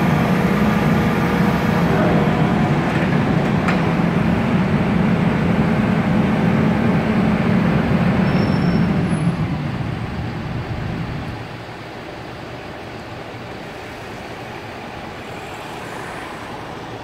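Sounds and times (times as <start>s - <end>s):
diesel excavator engine running: 0.0s - 17.0s.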